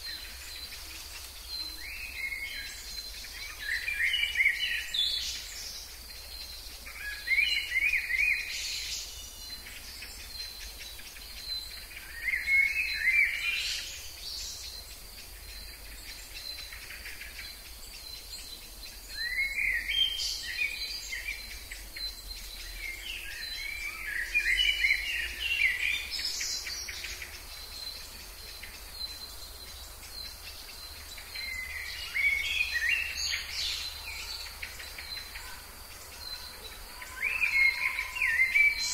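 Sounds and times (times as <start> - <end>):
high insect trill: 0.0 - 38.9.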